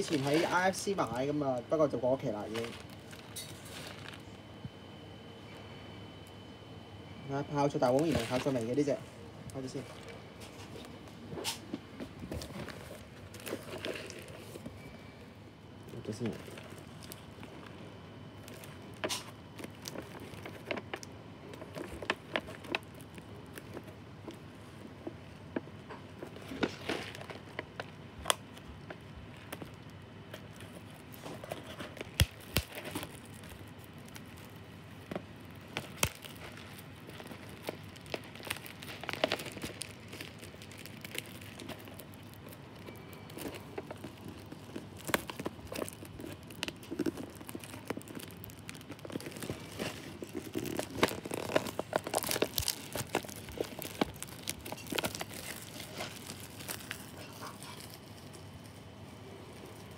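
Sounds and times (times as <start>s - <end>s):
plastic wrap crinkling and tearing: 0.0s - 5.0s, 7.2s - 15.1s, 15.8s - 59.9s.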